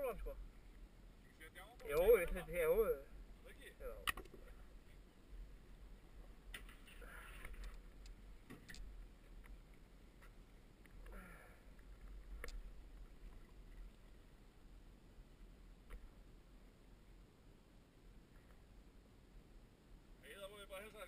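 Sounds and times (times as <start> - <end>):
faint low rumble: 0.0 - 21.0.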